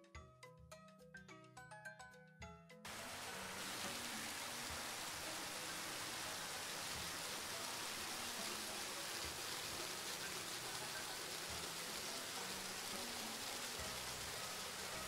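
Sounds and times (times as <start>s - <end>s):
water spraying from hose: 2.9s - 15.0s.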